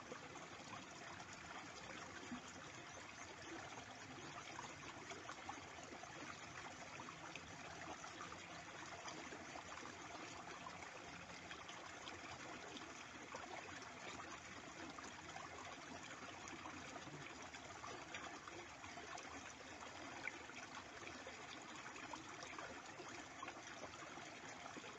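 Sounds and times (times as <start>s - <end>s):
stream babbling: 0.0s - 24.9s.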